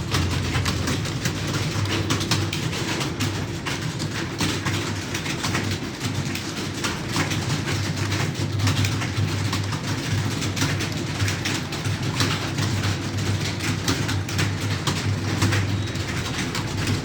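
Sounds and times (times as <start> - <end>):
keyboards clattering: 0.0 - 17.0.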